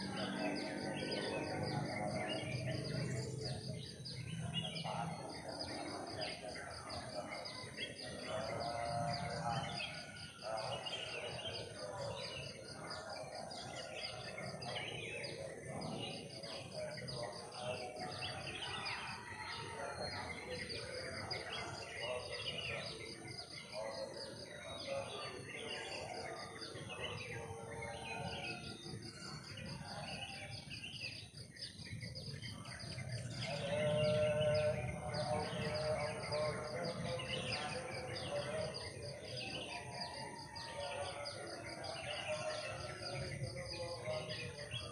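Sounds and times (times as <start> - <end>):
birds chirping and calling: 0.0 - 44.9
insects trilling: 0.0 - 44.9.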